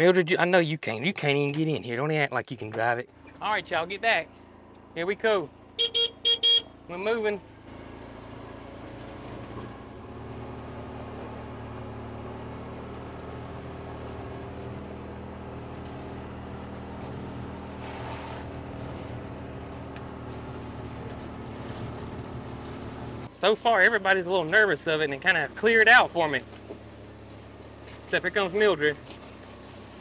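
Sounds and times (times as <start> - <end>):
vehicle engine running: 2.6 - 30.0.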